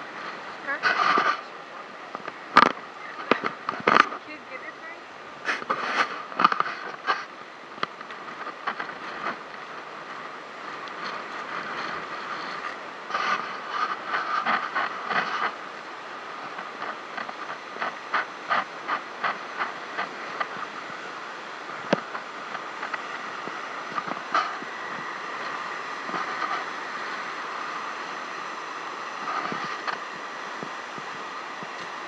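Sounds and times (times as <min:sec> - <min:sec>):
ocean surf breaking over rocks: 0:00.0 - 0:32.0.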